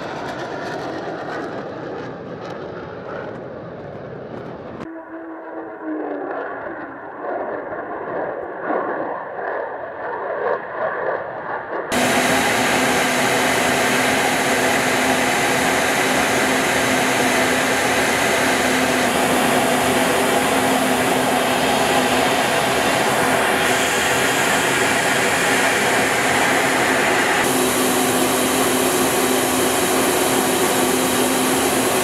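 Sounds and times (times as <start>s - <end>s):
airflow and engines in flight: 0.0s - 32.0s
jet engine flying past: 0.0s - 32.0s.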